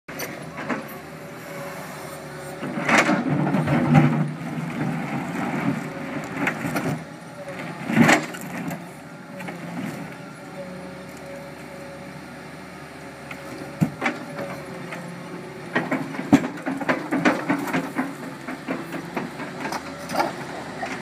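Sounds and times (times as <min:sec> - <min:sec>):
excavator diesel engine running: 0:00.1 - 0:21.0.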